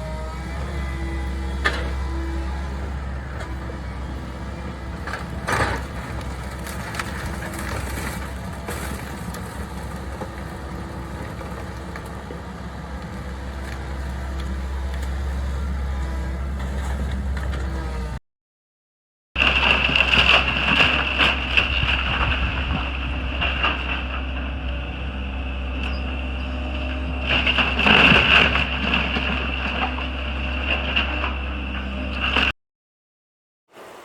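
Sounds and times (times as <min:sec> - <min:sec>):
heavy diesel engine running: 0:00.0 - 0:18.2, 0:19.4 - 0:32.5.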